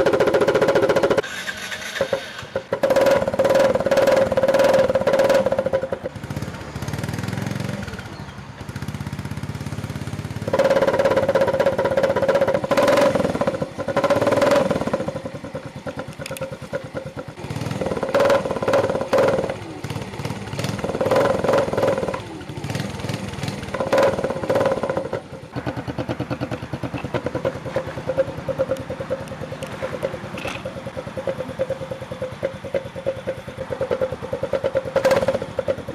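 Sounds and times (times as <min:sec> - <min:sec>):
small motorcycle engine revving: 0:00.0 - 0:35.9.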